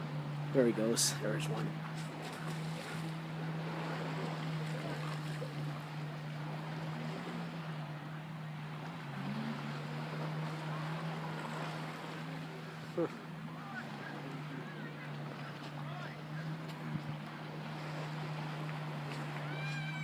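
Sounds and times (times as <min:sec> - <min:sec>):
low motor hum: 0:00.0 - 0:20.0
water noise: 0:00.0 - 0:20.0
wind: 0:00.0 - 0:20.0.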